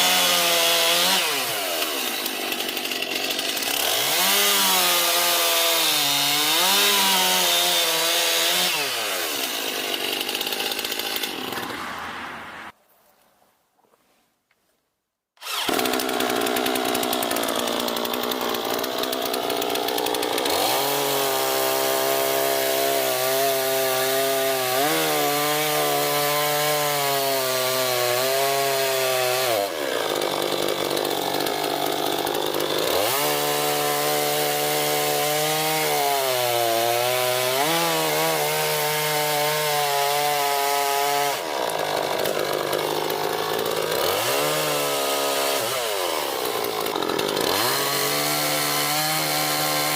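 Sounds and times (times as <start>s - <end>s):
chainsaw cutting wood: 0.0s - 12.8s, 15.4s - 49.9s.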